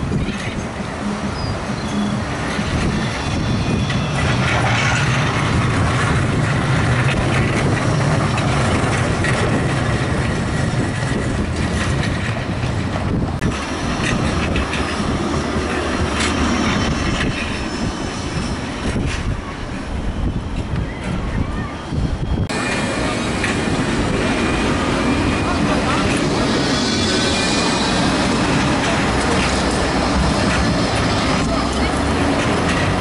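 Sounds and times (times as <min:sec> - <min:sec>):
tram wheels rumbling on rails: 0:00.0 - 0:33.0.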